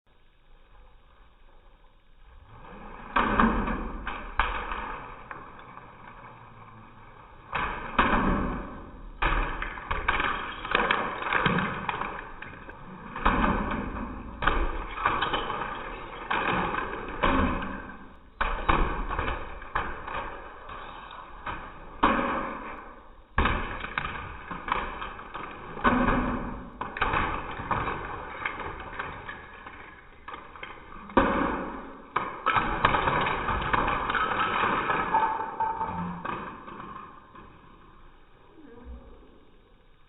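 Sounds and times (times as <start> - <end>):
plastic bricks crashing: 2.3 - 38.2.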